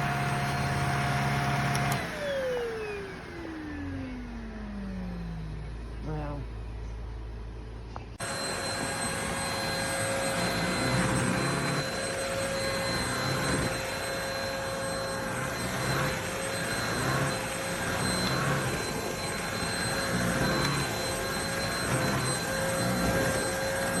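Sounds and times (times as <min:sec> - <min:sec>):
vacuum cleaner motor whining: 0:00.0 - 0:05.8, 0:08.2 - 0:24.0.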